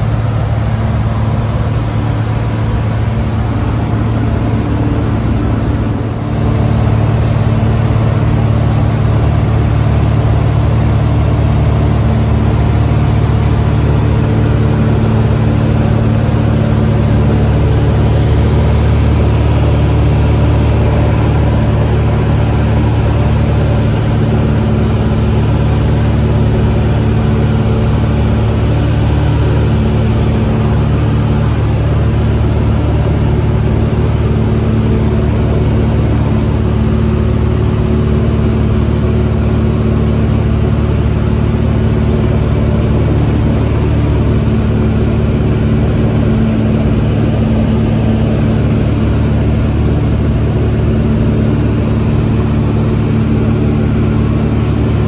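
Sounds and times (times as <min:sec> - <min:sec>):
plane engine drone in cabin: 0:00.0 - 0:55.0.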